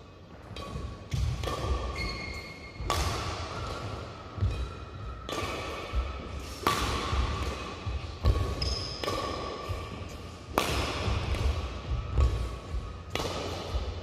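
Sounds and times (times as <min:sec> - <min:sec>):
racket hitting shuttlecock: 0:00.4 - 0:14.0.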